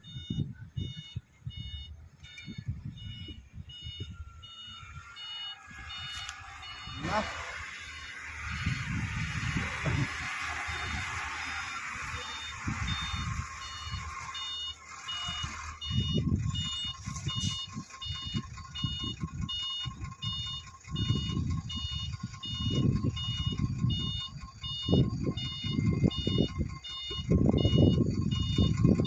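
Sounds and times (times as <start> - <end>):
bulldozer diesel engine rumble: 0.0 - 29.0
reversing alarm beeping: 0.0 - 29.0.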